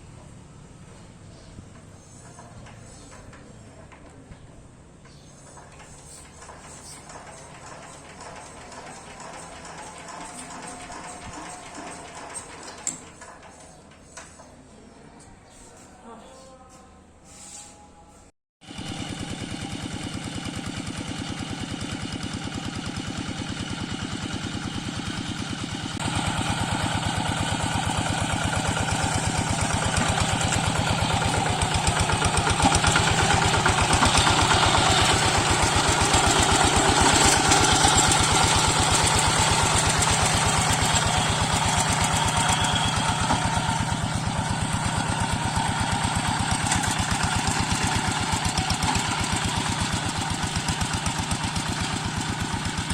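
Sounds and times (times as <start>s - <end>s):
diesel engine chugging: 5.5s - 13.7s, 18.7s - 52.9s.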